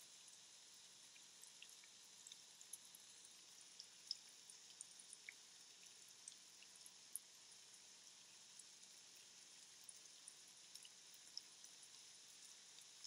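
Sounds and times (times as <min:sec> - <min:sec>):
faint steady hiss: 0:00.0 - 0:13.0
faint clicks and ticks: 0:01.0 - 0:13.0.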